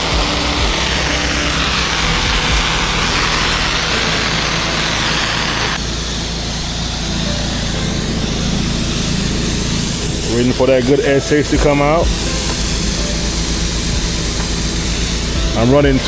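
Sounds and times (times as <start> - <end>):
pressure washer engine running: 0.0 - 16.0
water spray hiss: 0.0 - 16.0.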